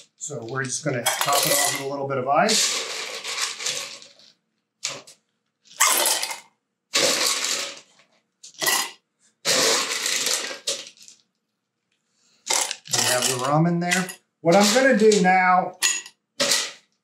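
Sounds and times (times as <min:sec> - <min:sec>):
ice cubes clattering into mugs: 0:00.5 - 0:05.1, 0:05.7 - 0:11.2, 0:12.5 - 0:16.9.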